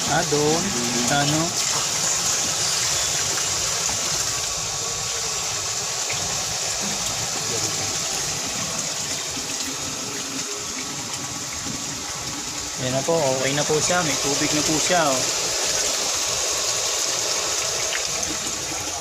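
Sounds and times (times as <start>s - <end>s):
water gushing from pump outlet: 0.0s - 19.0s.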